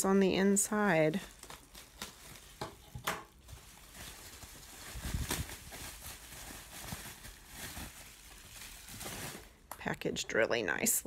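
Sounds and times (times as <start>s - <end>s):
bubble wrap rustling: 0.7s - 9.7s.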